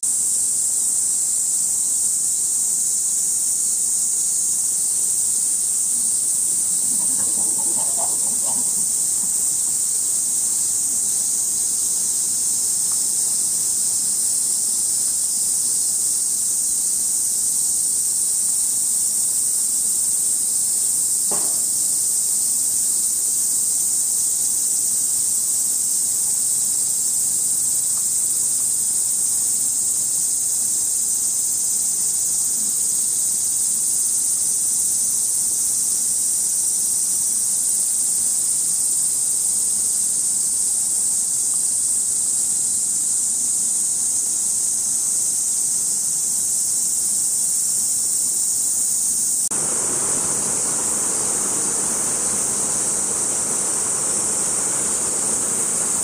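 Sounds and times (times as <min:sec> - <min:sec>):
cicada chorus drone: 0:00.0 - 0:56.0.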